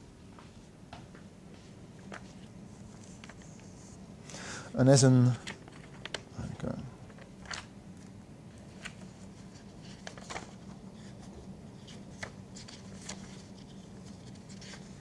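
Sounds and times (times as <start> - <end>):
steady low hum: 0.0 - 15.0
paper rustling and shuffling: 1.6 - 4.0, 4.8 - 15.0.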